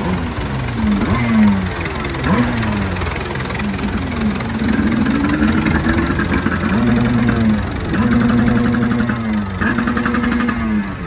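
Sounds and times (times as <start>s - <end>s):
tractor engine revving under load: 0.0s - 11.0s.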